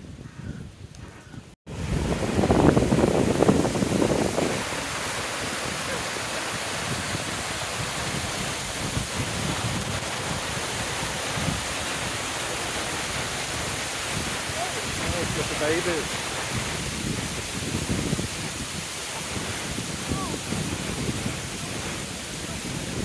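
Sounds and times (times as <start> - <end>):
wind on microphone: 0.0 - 23.0
water rushing down channel: 1.7 - 23.0.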